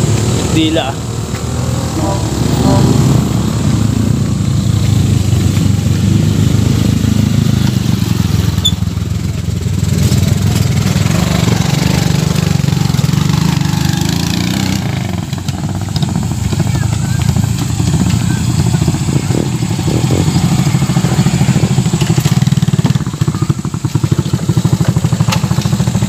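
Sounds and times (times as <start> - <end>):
motorcycle engine droning: 0.0 - 26.0.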